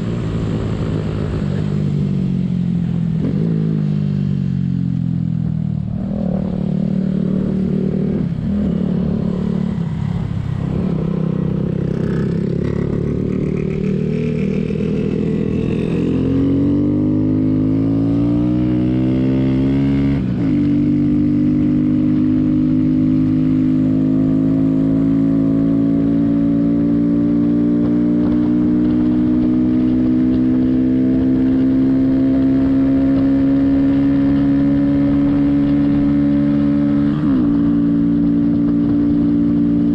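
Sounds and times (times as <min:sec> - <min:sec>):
motorbike engine revving: 0:06.0 - 0:39.9.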